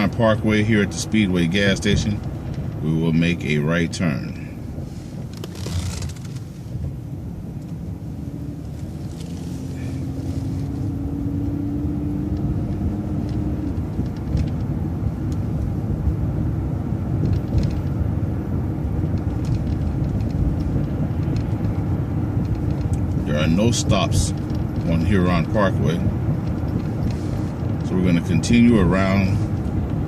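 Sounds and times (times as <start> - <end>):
bus engine rumble: 0.0 - 30.0.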